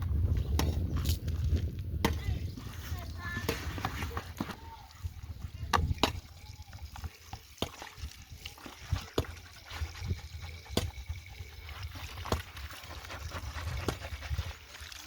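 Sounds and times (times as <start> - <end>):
water sloshing and trickling: 0.2 - 15.0.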